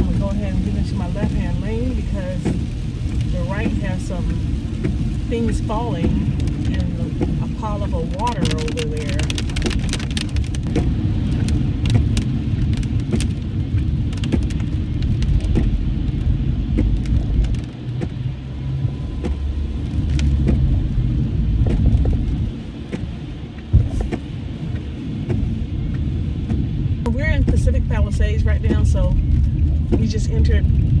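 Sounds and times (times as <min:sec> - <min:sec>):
car tyres on wet road: 0:00.0 - 0:31.0.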